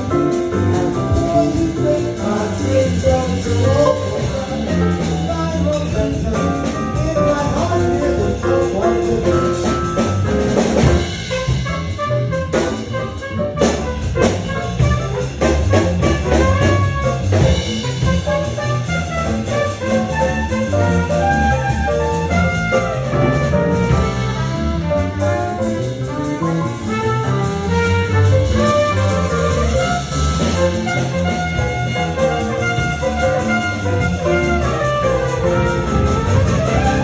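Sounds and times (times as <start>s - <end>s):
jazz band playing: 0.0s - 37.0s
trumpet: 0.0s - 37.0s.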